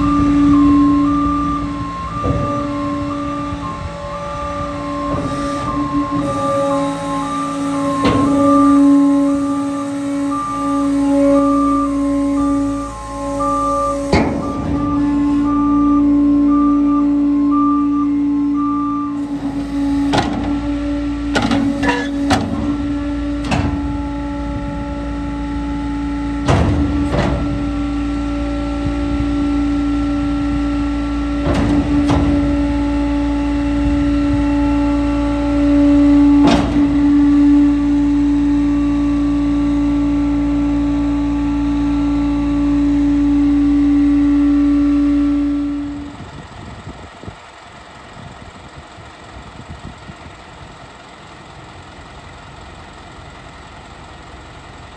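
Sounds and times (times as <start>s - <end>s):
diesel engine running: 0.0s - 54.9s
hydraulic whine: 0.0s - 54.9s.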